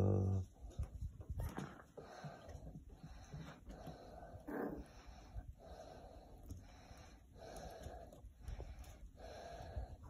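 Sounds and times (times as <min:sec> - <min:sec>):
rhythmic breathing: 0:01.9 - 0:10.0.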